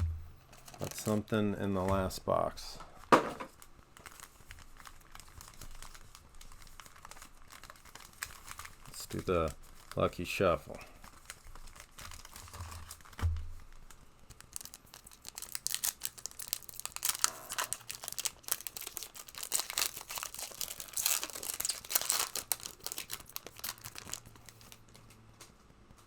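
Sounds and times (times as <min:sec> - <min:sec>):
cards and foil wrappers crinkling: 0:00.5 - 0:26.0.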